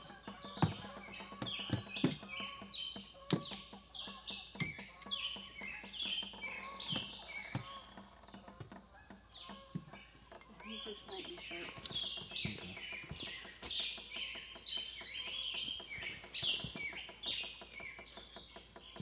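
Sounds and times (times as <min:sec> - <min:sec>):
birds chirping: 0:00.0 - 0:19.0
sharp knocks and clatter: 0:00.0 - 0:19.0.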